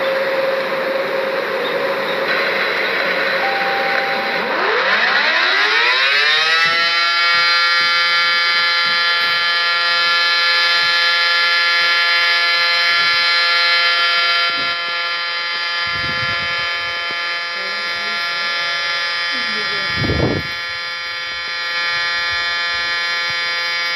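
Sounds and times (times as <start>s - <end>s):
tornado warning siren: 0.0s - 23.9s.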